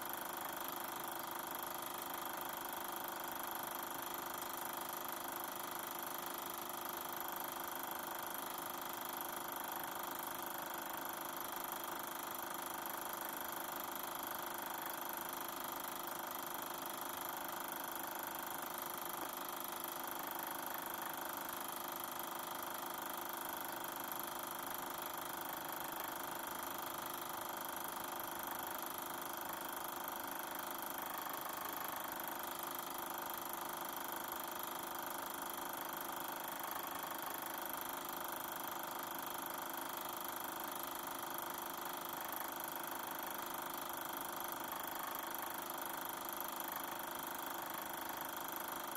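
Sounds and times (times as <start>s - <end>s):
film projector whirring: 0.0s - 48.9s.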